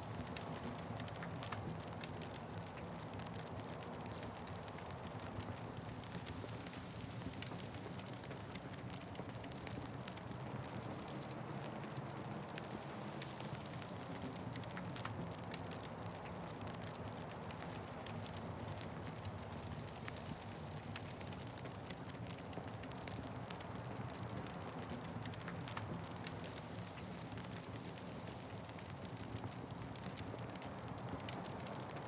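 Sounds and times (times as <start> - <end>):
wood fire crackling: 0.1 - 32.0.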